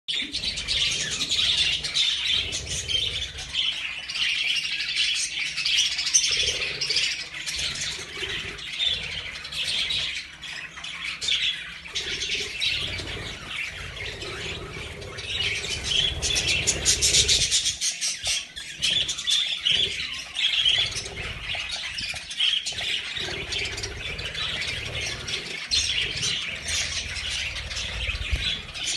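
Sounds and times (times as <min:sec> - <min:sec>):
birds chirping and squawking: 0:00.1 - 0:28.9.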